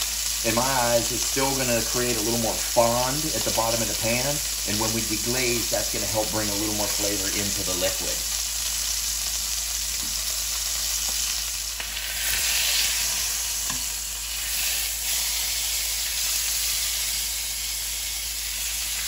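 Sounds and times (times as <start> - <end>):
meat sizzling in hot oil: 0.0 - 19.0.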